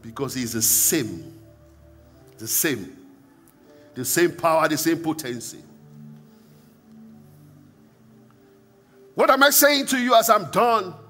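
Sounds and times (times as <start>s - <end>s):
soft music of held chords: 0.0s - 11.0s.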